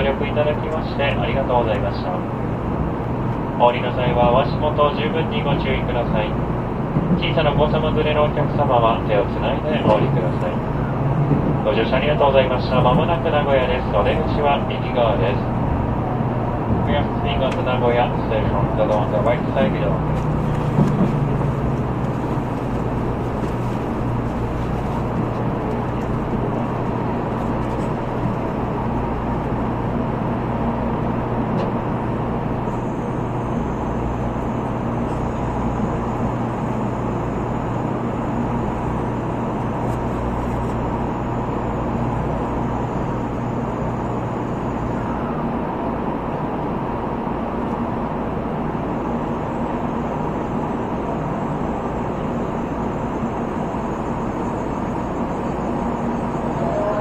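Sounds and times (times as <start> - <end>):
low hum: 0.0 - 46.6
train cabin rumble and rushing: 0.0 - 57.0.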